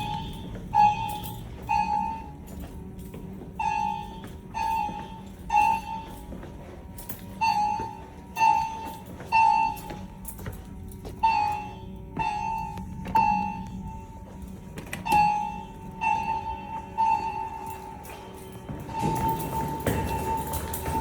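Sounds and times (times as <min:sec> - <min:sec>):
fire alarm tones: 0:00.0 - 0:21.0.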